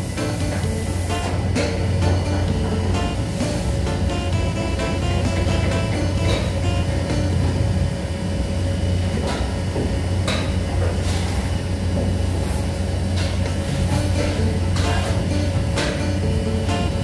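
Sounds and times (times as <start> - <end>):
factory machinery droning: 0.0 - 17.0.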